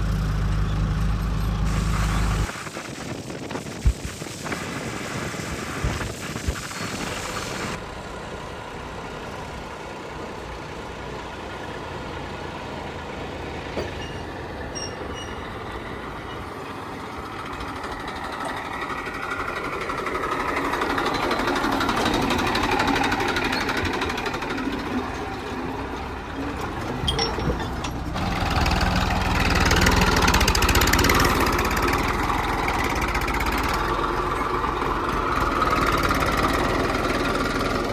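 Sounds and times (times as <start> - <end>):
heavy diesel machinery engine: 0.0 - 37.9.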